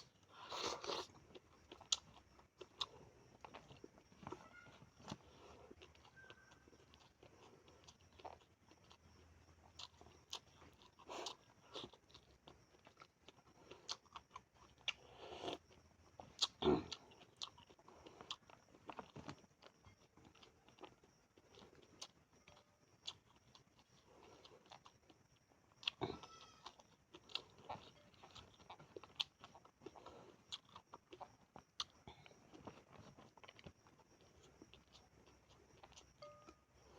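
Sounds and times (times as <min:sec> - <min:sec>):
food crunching: 0:00.0 - 0:36.9
person chewing and smacking: 0:00.0 - 0:36.9.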